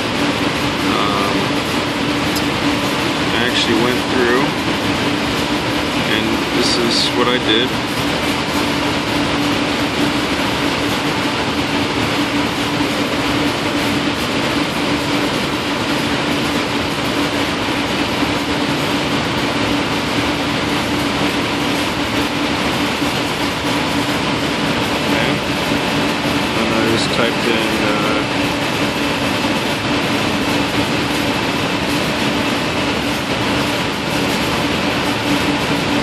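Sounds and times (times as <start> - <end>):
constant low hum: 0.0 - 36.0
steady rushing noise: 0.0 - 36.0.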